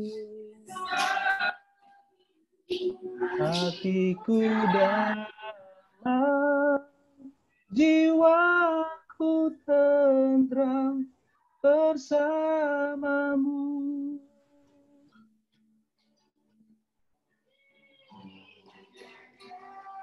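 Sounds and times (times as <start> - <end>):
person singing unaccompanied: 0.0 - 1.6, 2.7 - 15.1, 17.5 - 20.0.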